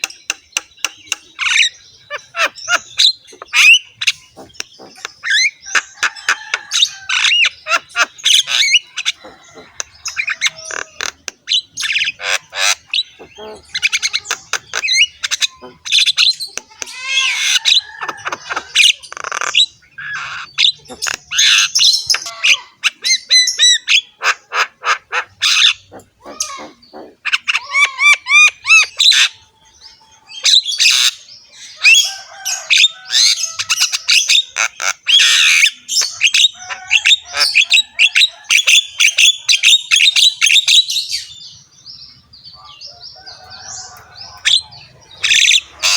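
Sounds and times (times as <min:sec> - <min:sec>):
myna bird singing harshly: 0:00.0 - 0:45.9.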